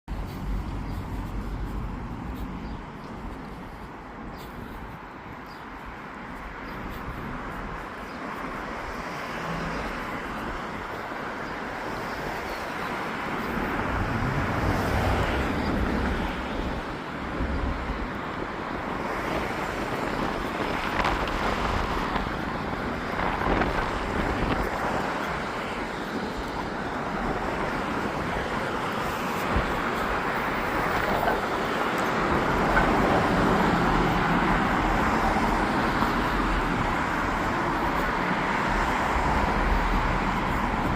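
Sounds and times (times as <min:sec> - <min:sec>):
road traffic passing: 0:00.1 - 0:40.9.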